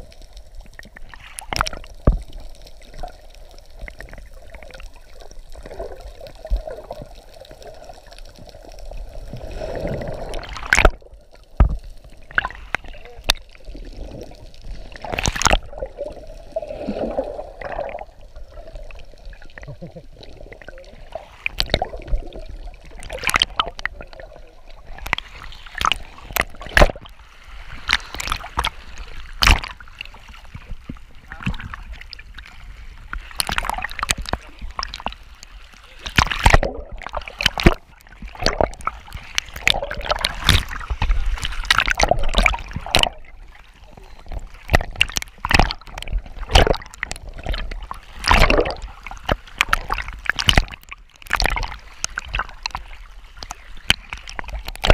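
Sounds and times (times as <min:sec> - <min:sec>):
air bubbles gurgling underwater: 0:00.0 - 0:27.2, 0:36.0 - 0:54.9.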